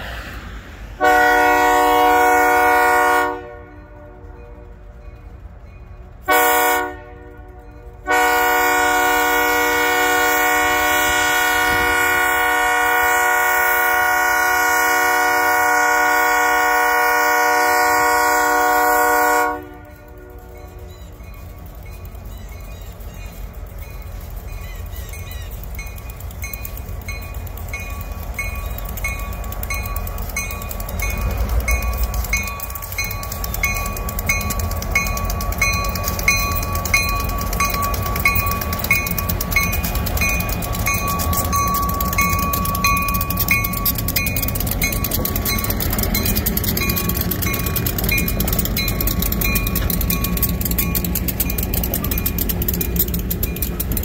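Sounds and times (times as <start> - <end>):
diesel locomotives rumbling past: 0.0 - 54.0
railroad bell ringing: 1.1 - 54.0.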